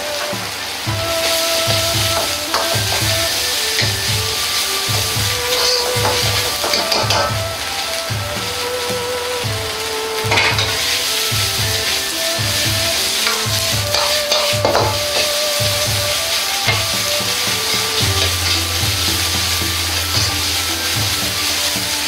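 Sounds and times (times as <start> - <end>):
vegetables sizzling in a wok: 0.0 - 22.0
metal ladle scraping a wok: 1.1 - 7.4, 10.3 - 22.0.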